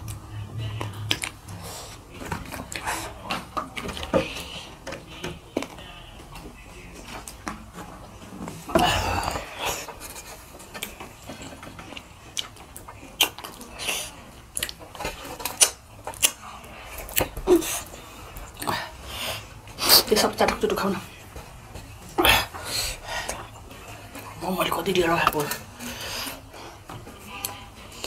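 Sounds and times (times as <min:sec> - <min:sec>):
eating noises: 0:00.0 - 0:28.0.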